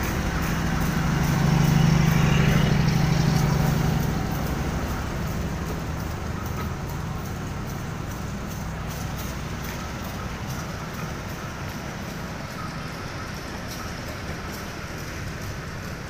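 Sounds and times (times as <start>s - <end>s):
diesel generator humming: 0.0s - 16.0s
train wheels clicking on rails: 0.0s - 16.0s.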